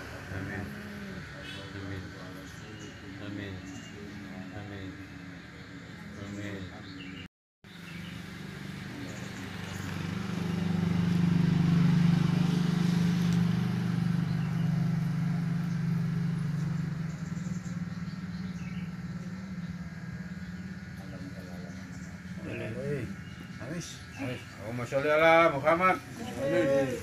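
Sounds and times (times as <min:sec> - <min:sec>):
vehicle engine passing by: 0:00.0 - 0:06.8, 0:07.7 - 0:27.0.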